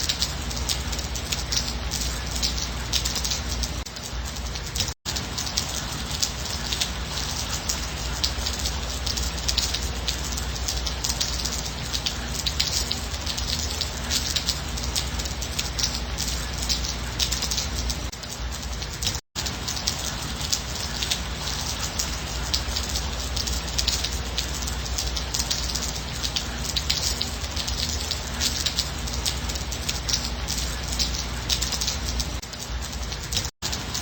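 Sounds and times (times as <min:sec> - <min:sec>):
light rain falling: 0:00.0 - 0:34.0.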